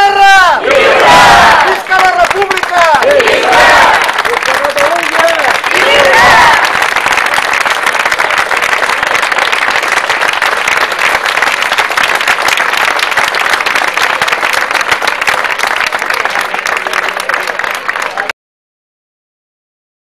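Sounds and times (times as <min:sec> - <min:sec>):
crowd applauding: 0:00.6 - 0:18.4.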